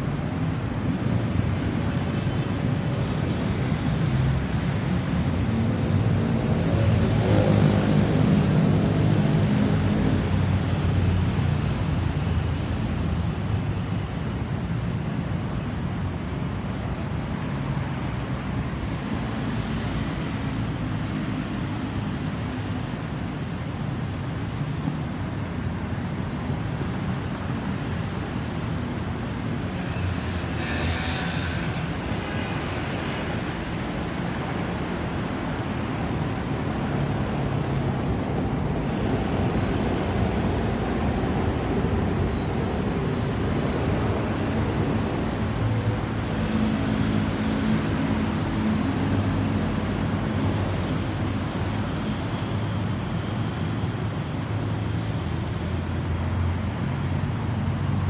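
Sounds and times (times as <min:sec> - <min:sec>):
road traffic hum: 0:00.0 - 0:58.0.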